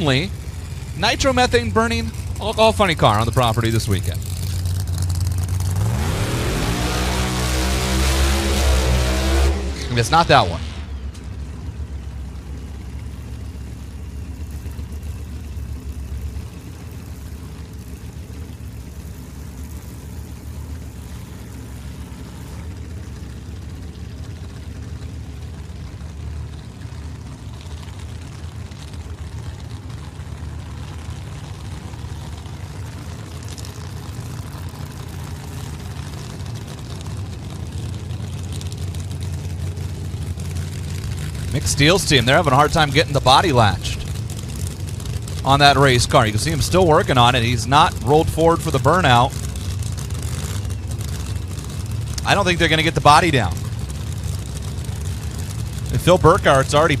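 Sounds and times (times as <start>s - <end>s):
engine idling rumble: 0.0s - 57.0s.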